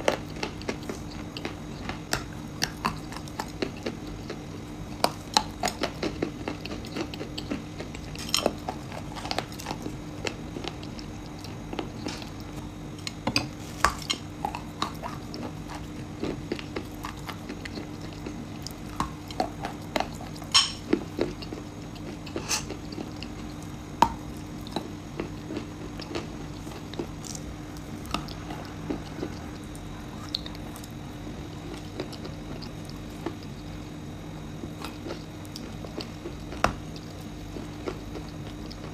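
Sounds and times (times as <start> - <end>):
crunchy biting and chewing: 0.0 - 38.9.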